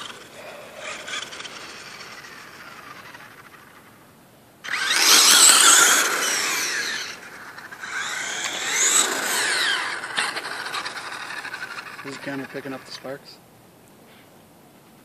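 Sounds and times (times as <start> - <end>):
electric motor whining: 0.0 - 3.8, 4.6 - 13.0.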